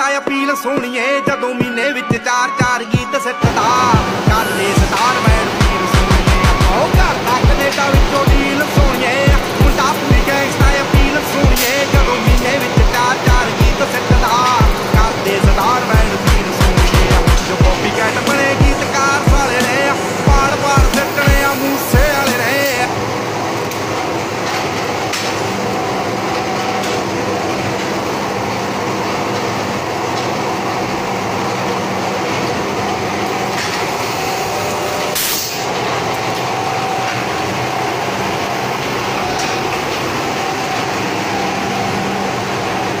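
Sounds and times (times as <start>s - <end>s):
factory machinery running: 0.0s - 43.0s.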